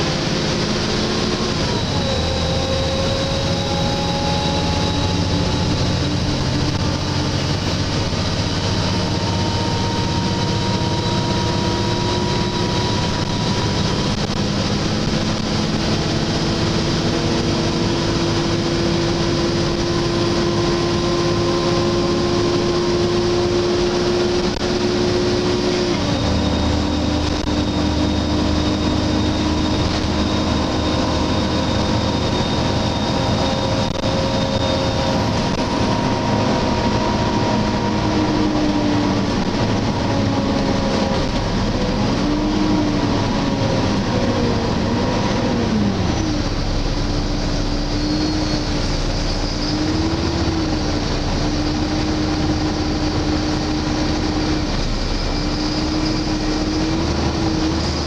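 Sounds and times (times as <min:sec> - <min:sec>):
bus engine droning: 0:00.0 - 0:58.0
road rumble: 0:00.0 - 0:58.0
thin high whine: 0:00.0 - 0:58.0.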